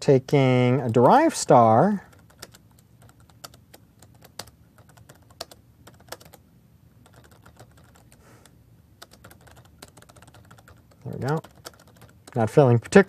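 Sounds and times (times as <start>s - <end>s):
faint keyboard typing: 2.0s - 6.4s, 7.0s - 13.0s.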